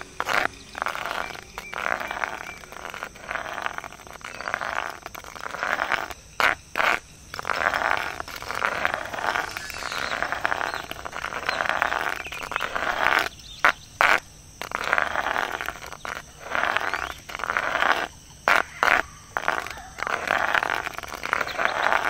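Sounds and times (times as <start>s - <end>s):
frog-like croaking chorus: 0.0s - 14.7s, 16.8s - 22.0s.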